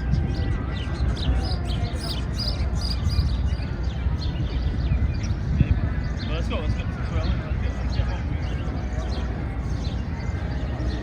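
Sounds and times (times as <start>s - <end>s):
low city park rumble: 0.0s - 11.0s
small birds chirping: 0.4s - 11.0s.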